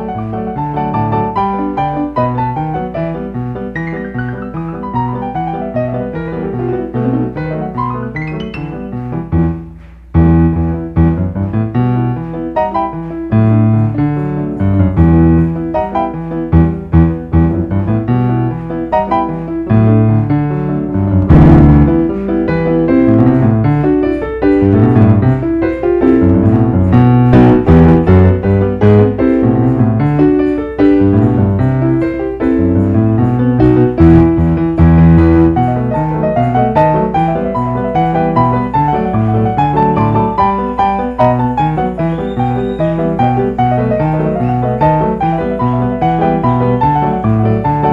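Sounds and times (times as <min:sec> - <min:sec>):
solo piano piece: 0:00.0 - 0:47.9.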